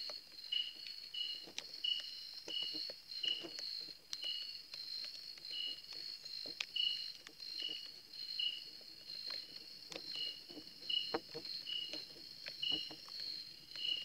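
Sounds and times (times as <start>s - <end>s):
insect chirping: 0.0s - 14.0s
insect pulsing trill: 0.4s - 14.0s.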